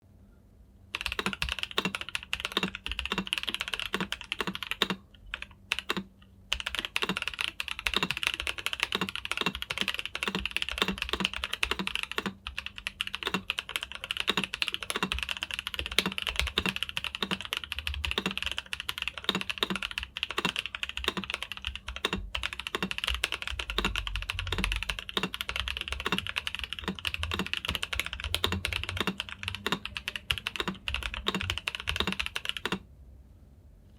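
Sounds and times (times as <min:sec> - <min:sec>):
mechanical keyboard typing: 0:00.9 - 0:32.8.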